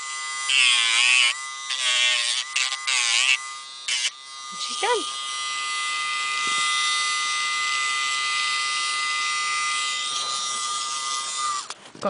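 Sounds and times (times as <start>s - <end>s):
rotary tool whining: 0.0s - 11.8s.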